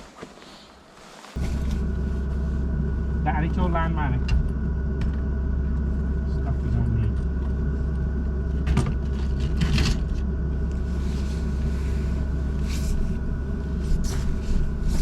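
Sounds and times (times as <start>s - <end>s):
diesel heater humming: 0.0s - 15.0s.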